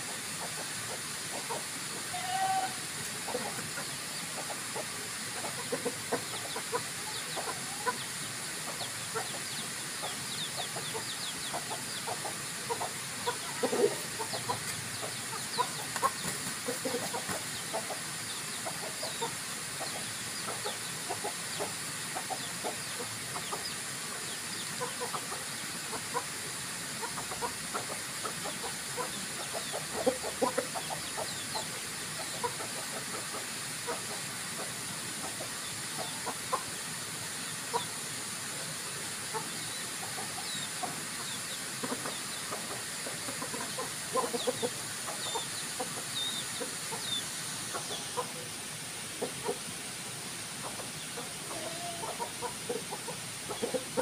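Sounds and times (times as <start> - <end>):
chickens clucking: 0.0 - 54.0
steady hiss: 0.0 - 54.0.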